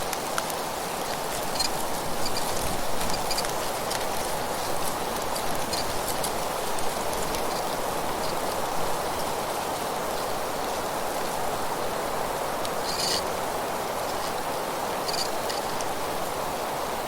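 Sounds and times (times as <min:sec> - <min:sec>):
wind rustling leaves: 0:00.0 - 0:17.0.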